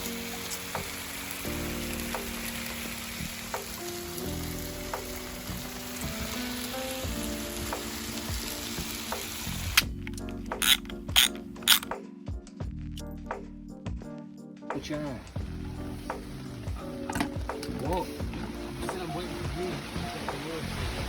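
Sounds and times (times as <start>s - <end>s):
crackling sizzling hiss: 0.0s - 12.0s, 14.8s - 21.0s
background music: 0.0s - 21.0s.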